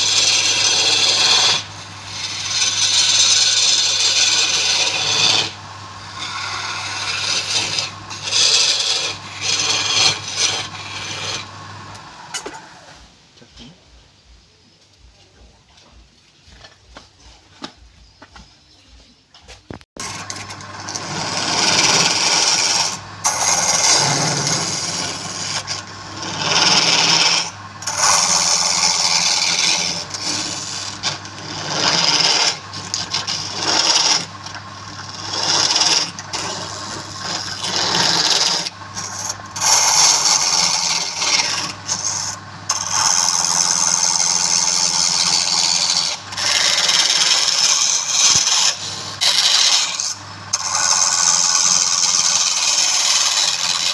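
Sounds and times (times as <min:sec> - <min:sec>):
low motor hum: 0:00.0 - 0:13.0, 0:20.0 - 0:53.9
power tool rasping wood: 0:00.0 - 0:13.0, 0:20.0 - 0:53.9.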